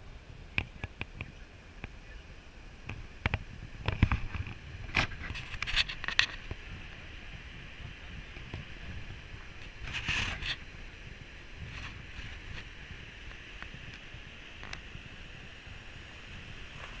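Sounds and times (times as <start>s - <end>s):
mountain stream rushing: 0.0s - 17.0s
wind rumbling on microphone: 0.0s - 17.0s.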